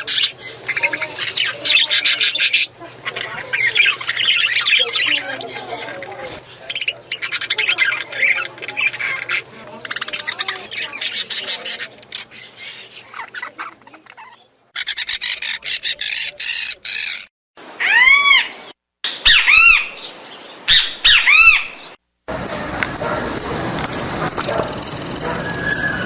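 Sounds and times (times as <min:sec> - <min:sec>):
bird calls rising and falling: 0:00.0 - 0:26.0
birds chirping: 0:00.0 - 0:26.0.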